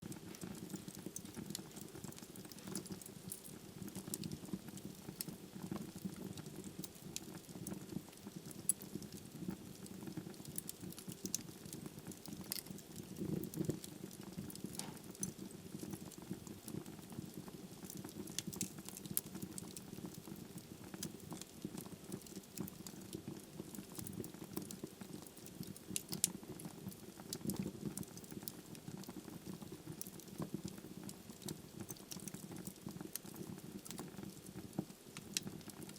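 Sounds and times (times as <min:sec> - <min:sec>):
fire crackling and popping: 0:00.0 - 0:35.9.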